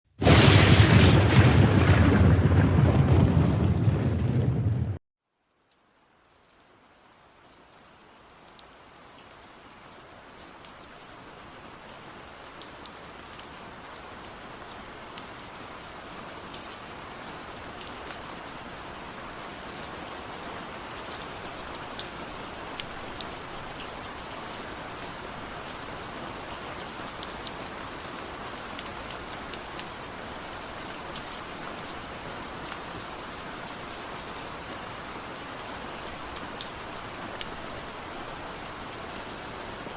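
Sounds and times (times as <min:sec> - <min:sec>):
rain falling on a surface: 0:00.2 - 0:39.9.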